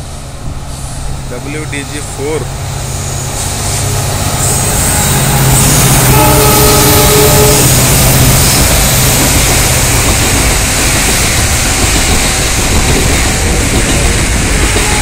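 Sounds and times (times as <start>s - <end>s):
diesel locomotive engine drone: 0.0s - 15.0s
freight wagons rumbling on rails: 0.0s - 15.0s.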